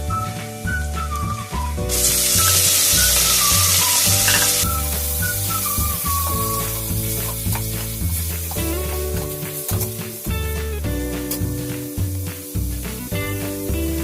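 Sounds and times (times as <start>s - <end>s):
background music with whistled melody: 0.0s - 14.0s
food sizzling in hot oil: 0.1s - 14.0s.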